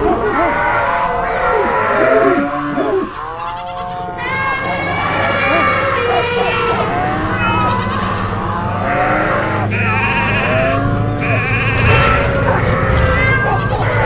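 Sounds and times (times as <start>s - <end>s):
sheep bleating: 0.1s - 14.0s.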